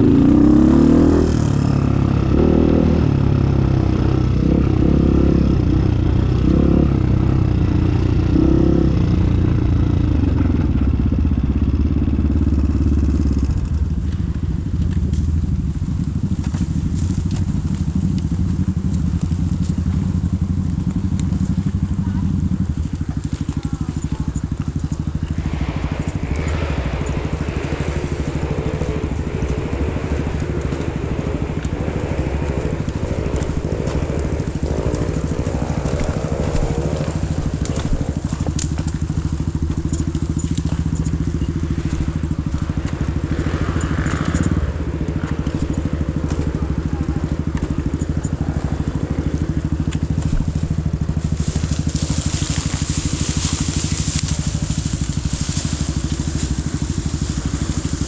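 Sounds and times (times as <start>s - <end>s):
motorcycle engine running: 0.0s - 58.0s
crackling rattle: 5.5s - 58.0s.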